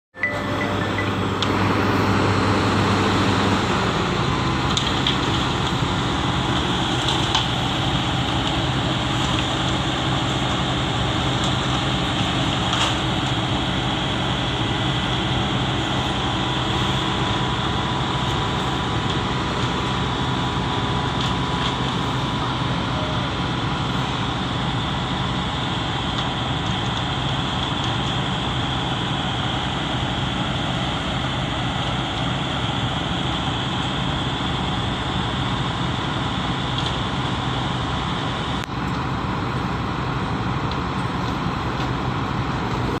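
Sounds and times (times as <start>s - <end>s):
heavy diesel engines droning: 0.1s - 43.0s.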